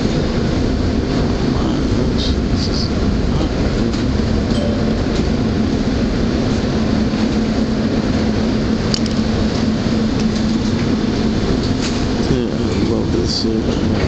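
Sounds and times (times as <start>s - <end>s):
trolley rumbling on rails: 0.0s - 14.0s.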